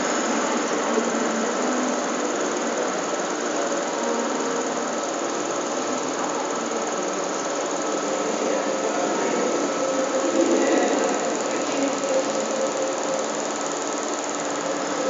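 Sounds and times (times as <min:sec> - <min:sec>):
machine whirring drone: 0:00.0 - 0:15.0.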